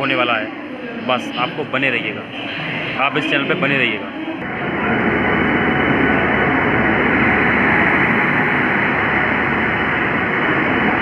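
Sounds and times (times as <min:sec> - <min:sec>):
locomotive running: 0:00.9 - 0:11.0.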